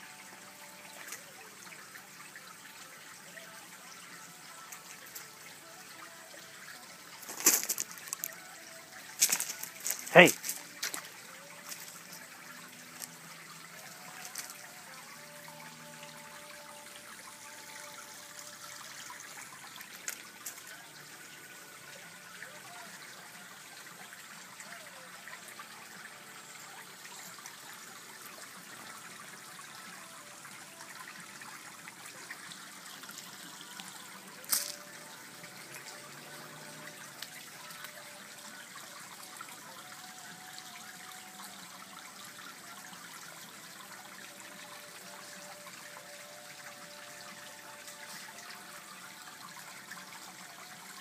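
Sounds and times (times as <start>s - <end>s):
pond water trickling: 0.0s - 51.0s.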